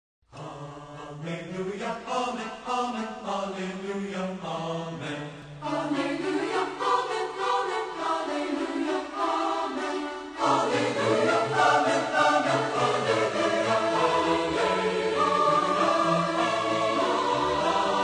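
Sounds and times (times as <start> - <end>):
choir-like chanted singing: 0.3 - 18.0.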